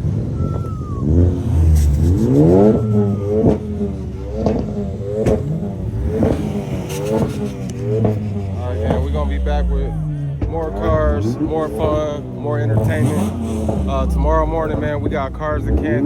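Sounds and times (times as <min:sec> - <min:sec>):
car engine revving: 0:00.0 - 0:16.0
exhaust pops: 0:00.0 - 0:16.0.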